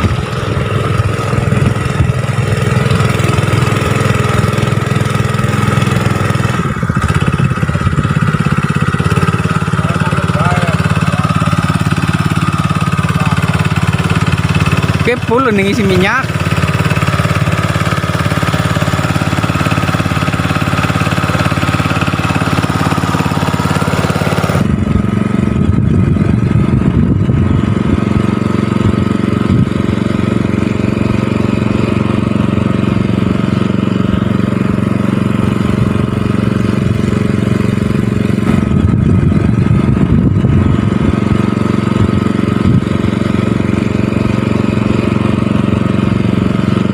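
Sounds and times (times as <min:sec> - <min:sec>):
water pump engine running: 0:00.0 - 0:46.9.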